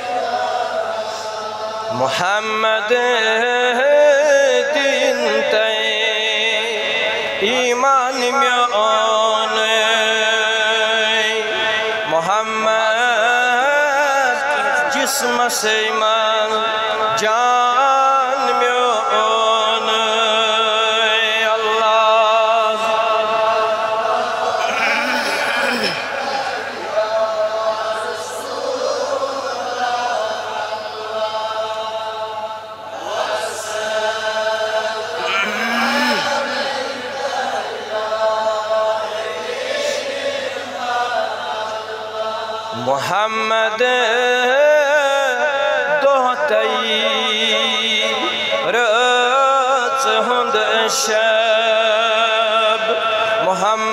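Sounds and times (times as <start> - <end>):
man chanting: 1.3 - 31.4, 33.0 - 40.6, 42.7 - 53.9.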